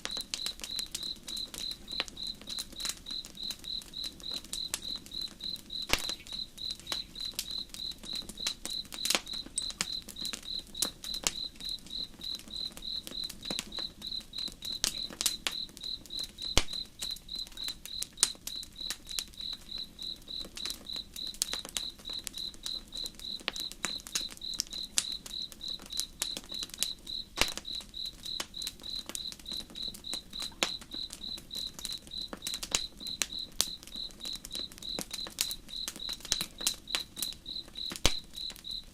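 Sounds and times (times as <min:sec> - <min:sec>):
campfire crackling: 0:00.0 - 0:38.9
cricket chirping: 0:00.0 - 0:38.9.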